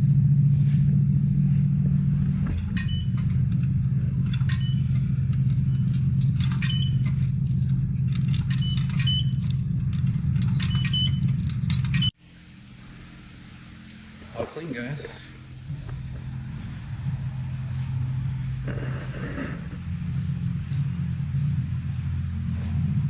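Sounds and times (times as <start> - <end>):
car wash machinery drone: 0.0 - 23.0.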